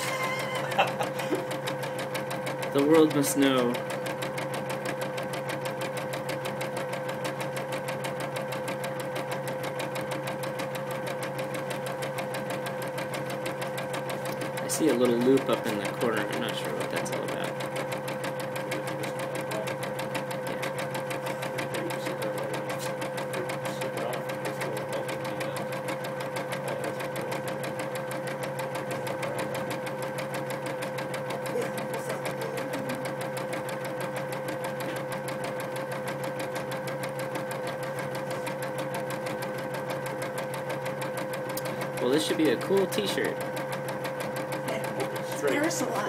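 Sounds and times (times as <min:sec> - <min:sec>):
embroidery machine needle stitching: 0:00.0 - 0:46.0
steady motor tone: 0:00.0 - 0:46.0.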